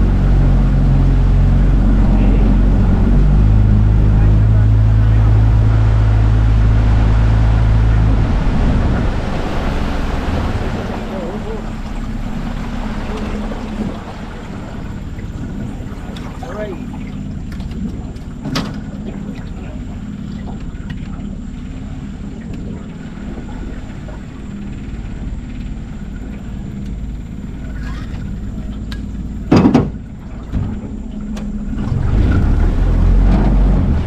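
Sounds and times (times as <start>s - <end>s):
outboard motor droning: 0.0s - 34.0s.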